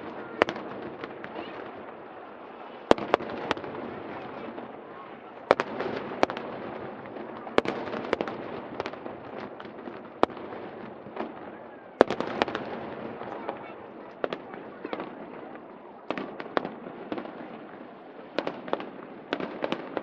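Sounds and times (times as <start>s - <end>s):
crowd chatter: 0.0s - 20.0s
fireworks bangs: 0.0s - 20.0s.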